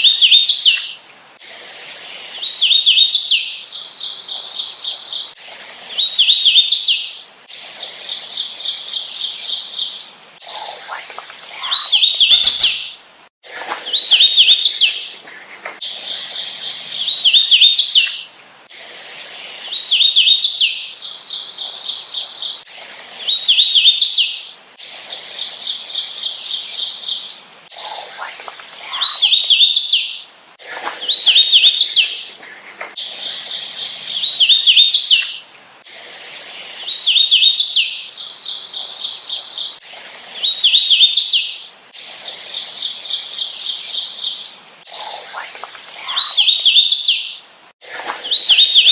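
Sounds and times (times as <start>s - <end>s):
warbler singing: 0.0s - 1.0s, 2.0s - 7.3s, 7.9s - 18.4s, 19.3s - 24.5s, 25.4s - 35.5s, 36.6s - 41.7s, 42.5s - 48.9s
background hiss: 0.0s - 48.9s.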